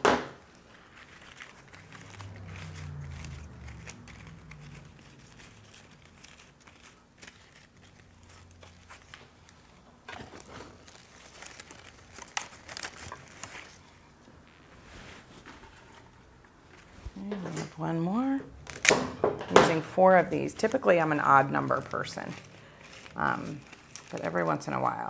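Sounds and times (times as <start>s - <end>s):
leaves and stems rustling: 0.5s - 25.0s.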